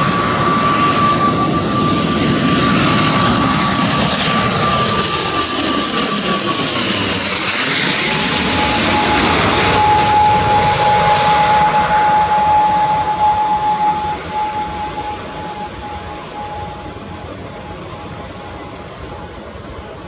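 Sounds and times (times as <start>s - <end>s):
propeller airliner passing overhead: 0.0s - 20.0s.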